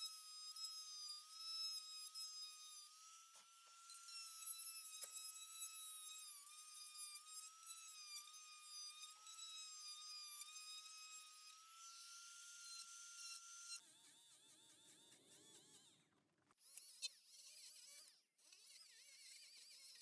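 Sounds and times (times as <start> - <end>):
die grinder carving wood: 0.0 - 20.0.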